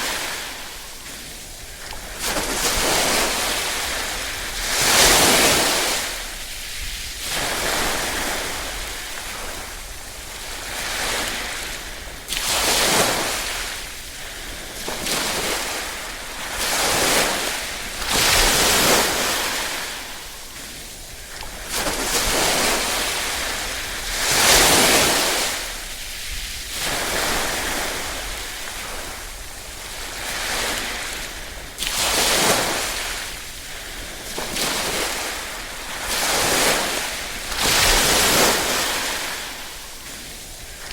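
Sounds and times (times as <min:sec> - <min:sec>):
small waves washing onto shore: 0:00.0 - 0:40.9.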